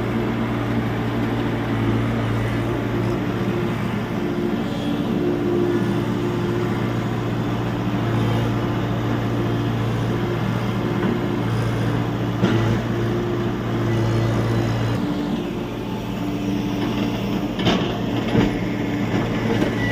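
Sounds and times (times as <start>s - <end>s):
excavator diesel engine: 0.0s - 19.9s.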